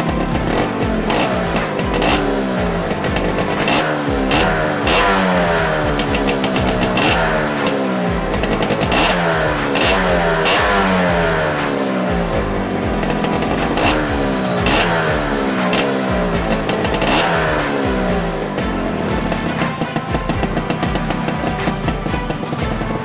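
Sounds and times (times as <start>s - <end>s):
motorcycle engine revving: 0.0s - 23.0s
sharp cracks: 0.0s - 23.0s.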